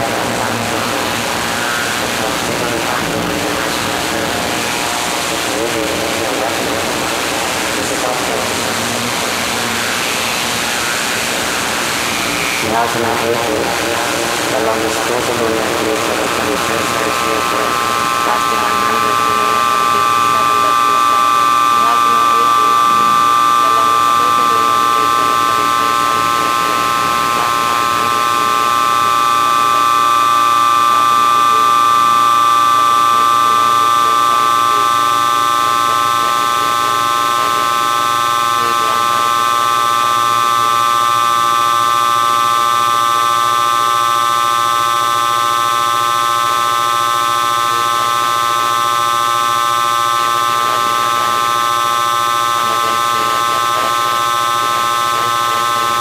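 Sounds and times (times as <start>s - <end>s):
electronic drone: 0.0s - 56.0s.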